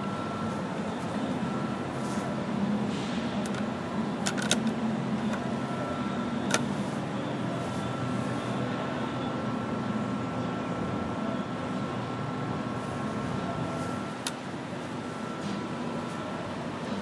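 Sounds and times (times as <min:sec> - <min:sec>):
air conditioner unit humming: 0:00.0 - 0:17.0.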